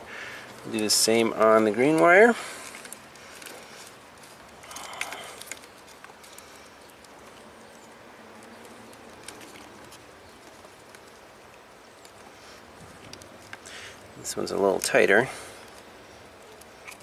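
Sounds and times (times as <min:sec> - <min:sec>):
low steady background hiss: 0:00.0 - 0:17.0
wire strippers clicking and scraping: 0:00.4 - 0:17.0.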